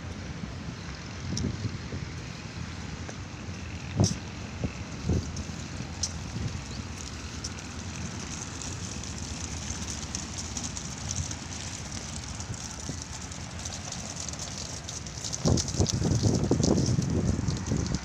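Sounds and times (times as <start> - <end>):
wind rumbling on microphone: 0.0 - 18.0
faint crackling: 2.1 - 18.0.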